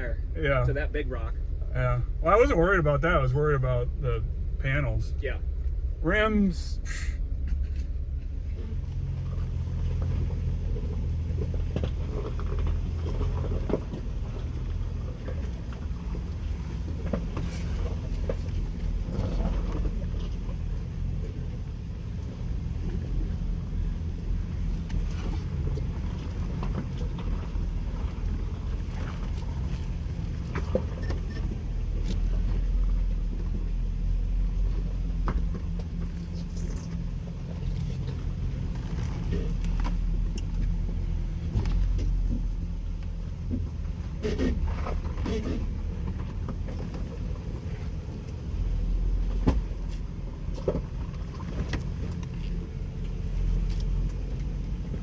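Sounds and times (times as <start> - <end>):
engine low rumble: 0.0 - 55.0.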